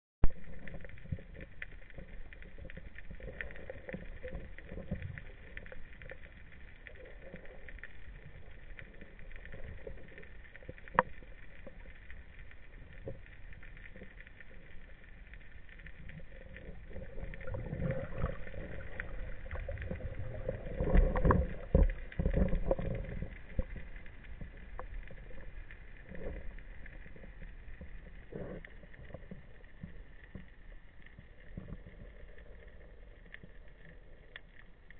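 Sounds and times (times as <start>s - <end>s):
faint clicks: 0.2s - 34.9s
muffled underwater noise: 0.2s - 34.9s.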